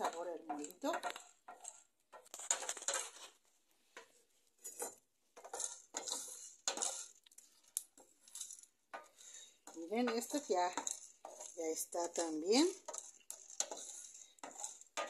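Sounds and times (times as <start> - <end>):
spices rattling against metal: 0.0 - 3.4, 4.6 - 15.0
wooden spoon scraping pan: 0.0 - 15.0.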